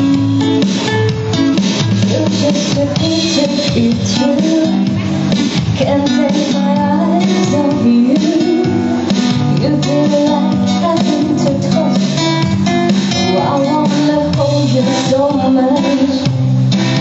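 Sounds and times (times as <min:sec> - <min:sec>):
acoustic guitars playing: 0:00.0 - 0:17.0.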